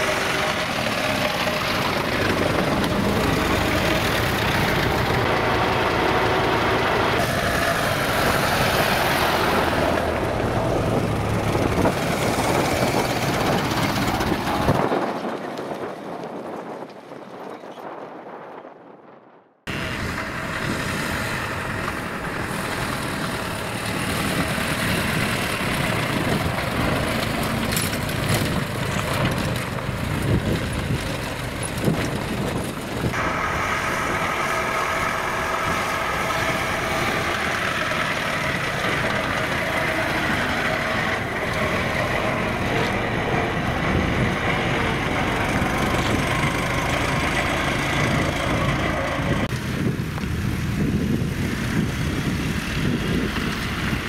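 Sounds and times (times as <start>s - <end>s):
car engine running: 0.0s - 14.9s, 19.7s - 54.0s
tyre and road noise: 0.0s - 54.0s.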